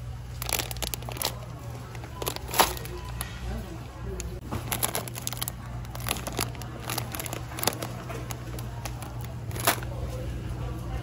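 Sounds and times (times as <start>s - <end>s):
plastic bag crinkling: 0.3s - 10.0s.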